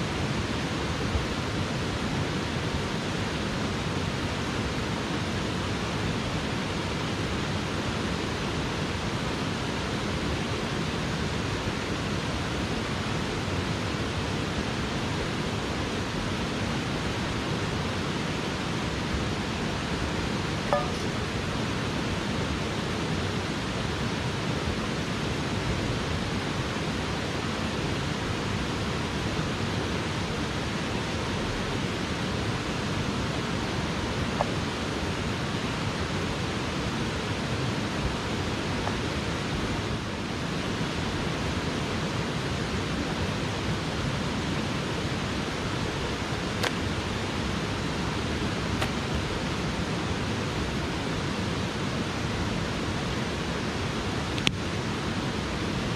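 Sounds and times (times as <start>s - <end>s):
mountain stream rushing: 0.0s - 55.9s.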